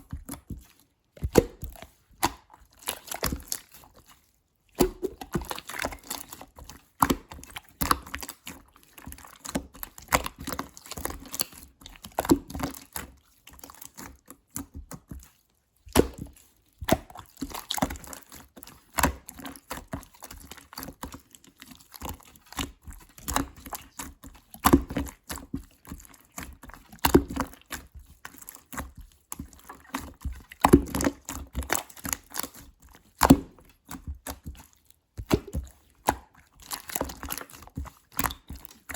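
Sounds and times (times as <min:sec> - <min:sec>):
slime squished by hand: 0:00.0 - 0:38.9.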